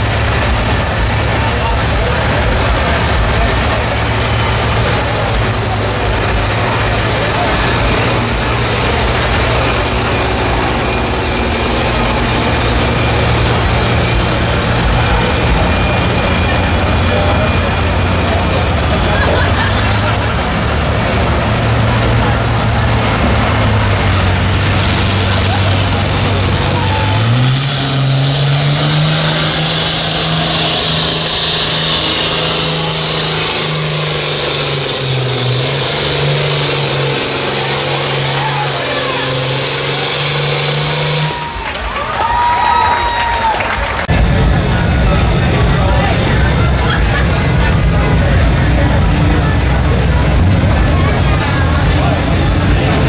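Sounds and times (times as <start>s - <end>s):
heavy vehicle engine droning: 0.0s - 53.0s.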